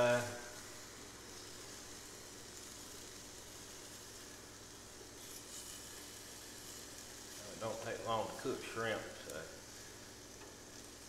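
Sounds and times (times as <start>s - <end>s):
shrimp sizzling on a grill: 0.0s - 11.0s.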